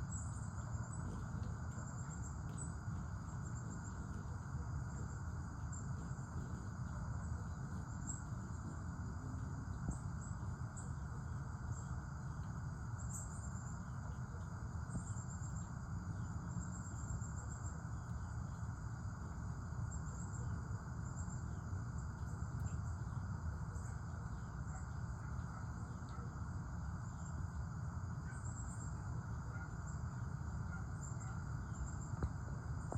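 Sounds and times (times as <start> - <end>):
insects buzzy trills: 0.0 - 32.9.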